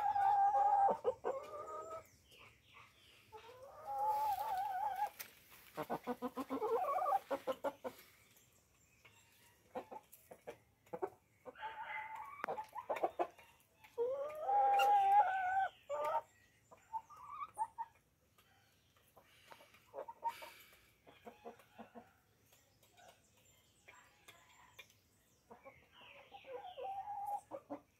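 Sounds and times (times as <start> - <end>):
chickens clucking: 0.0 - 27.9.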